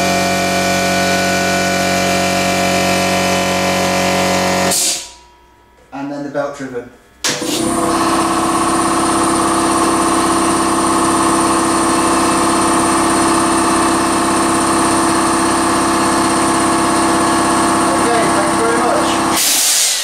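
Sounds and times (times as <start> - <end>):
air compressor running: 0.0 - 5.3, 7.0 - 20.0.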